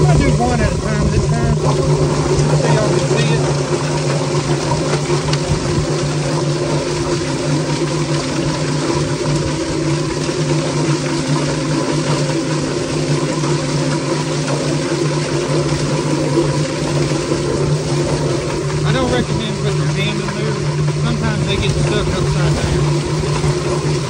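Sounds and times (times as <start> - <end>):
electric motor humming: 0.0 - 24.0
water spraying and splashing: 0.0 - 24.0.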